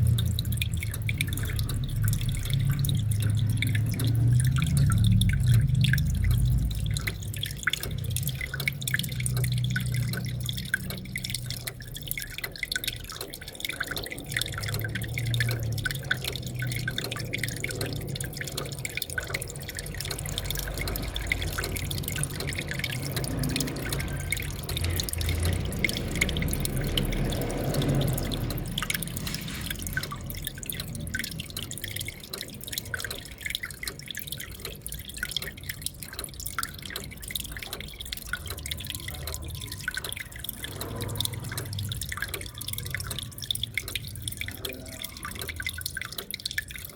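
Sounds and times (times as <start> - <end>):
water dripping and splashing: 0.0 - 46.9.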